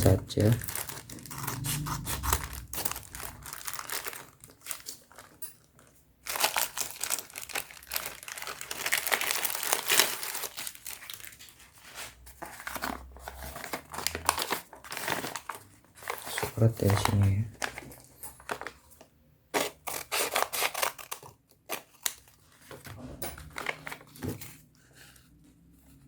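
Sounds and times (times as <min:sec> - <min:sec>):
plastic packaging crinkling: 0:00.0 - 0:24.6.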